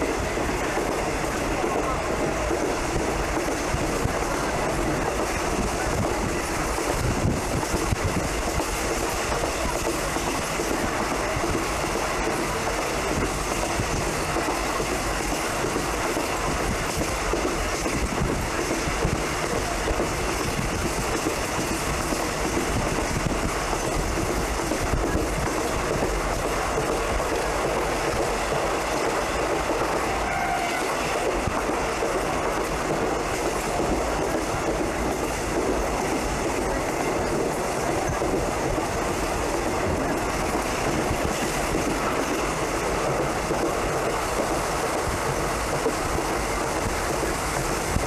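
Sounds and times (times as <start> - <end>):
train wheels on rails: 0.0 - 48.0.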